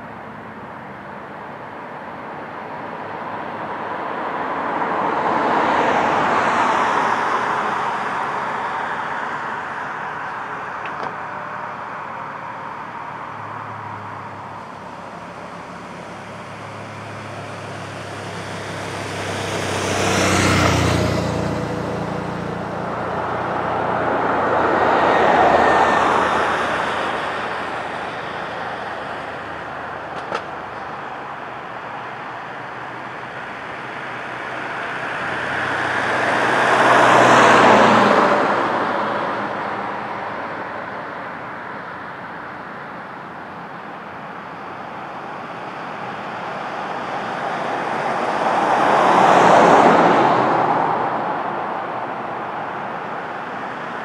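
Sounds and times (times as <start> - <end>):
cars passing by: 0.0 - 54.0.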